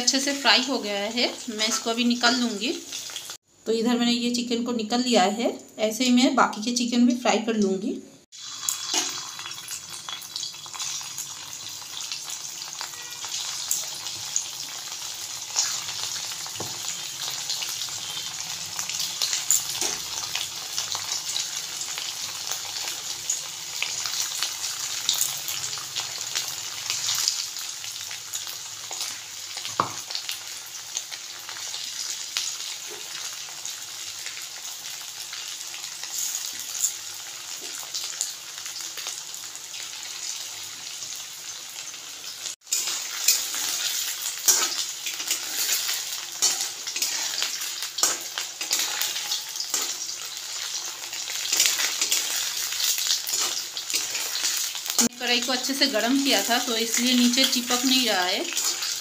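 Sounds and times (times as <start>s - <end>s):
chicken deep-frying in oil: 0.0s - 3.4s, 7.6s - 59.0s.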